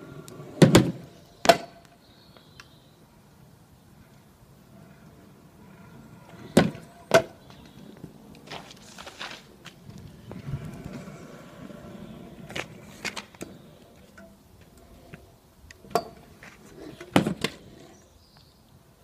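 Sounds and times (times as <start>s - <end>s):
scooter wheels rolling on tarmac: 0.0s - 19.0s.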